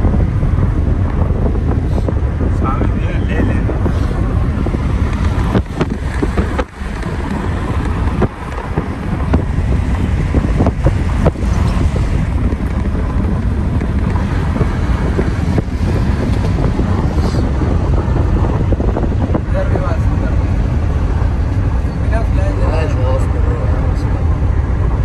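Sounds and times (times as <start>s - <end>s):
car rumbling: 0.0s - 25.0s
wind buffeting microphone: 0.0s - 25.0s.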